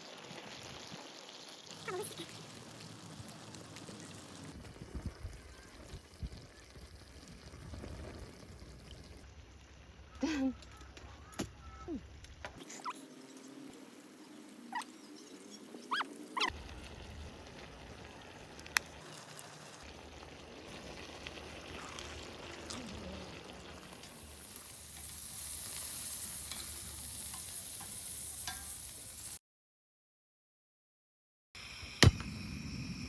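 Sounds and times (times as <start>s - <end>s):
food sizzling: 0.0s - 10.6s, 12.6s - 29.4s, 31.6s - 33.0s.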